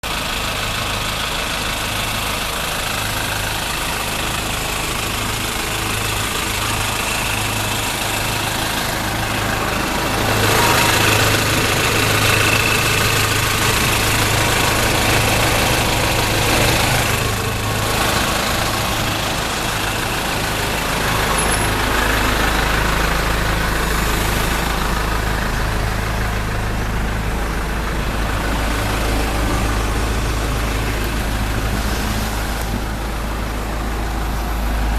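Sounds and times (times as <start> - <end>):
truck engine rumbling: 0.0 - 34.9.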